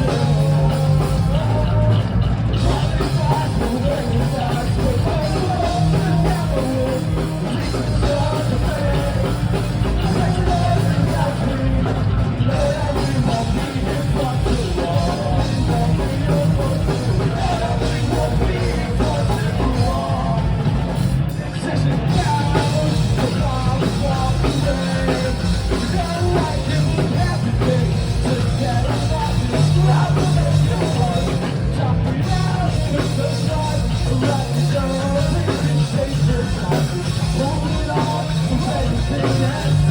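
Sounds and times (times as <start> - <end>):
heavy bass: 0.0 - 39.9
person singing: 0.0 - 39.9
rock band playing: 0.0 - 39.9.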